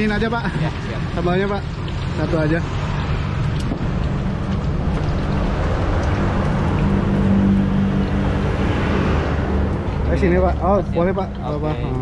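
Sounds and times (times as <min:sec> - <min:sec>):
street noise hiss: 0:00.0 - 0:12.0.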